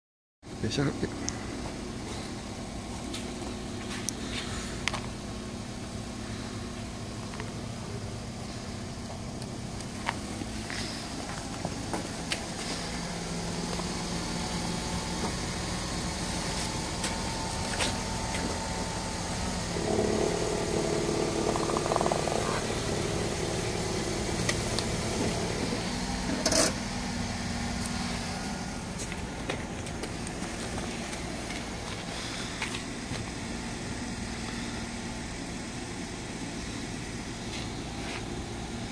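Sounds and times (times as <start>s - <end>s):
car engine humming: 0.5s - 38.9s.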